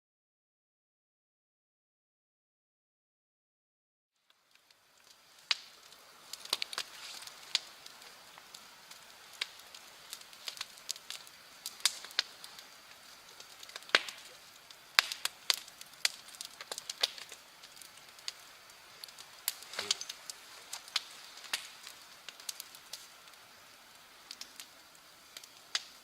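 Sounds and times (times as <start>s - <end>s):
faint steady hiss: 4.2s - 26.0s
wood fire crackling and popping: 4.2s - 26.0s.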